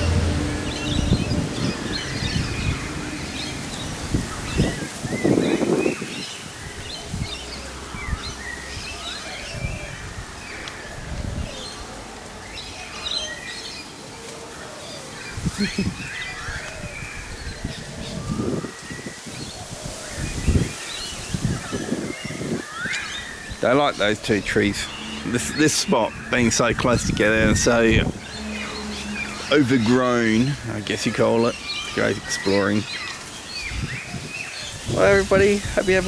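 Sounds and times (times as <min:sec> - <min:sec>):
wind gusts on microphone: 0:00.0 - 0:12.3, 0:15.2 - 0:36.0
small birds chirping: 0:00.0 - 0:36.0.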